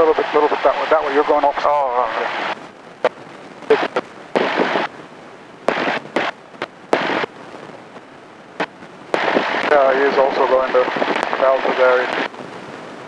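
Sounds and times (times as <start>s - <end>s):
radio static bursts: 0.0s - 13.0s.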